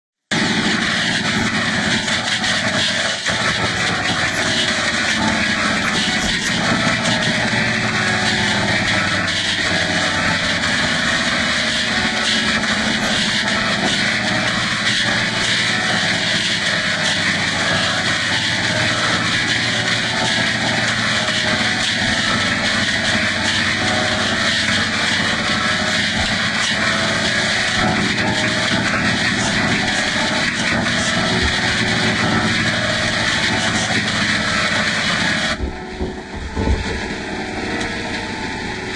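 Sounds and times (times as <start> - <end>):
distorted noisy music drone: 0.2 - 38.9.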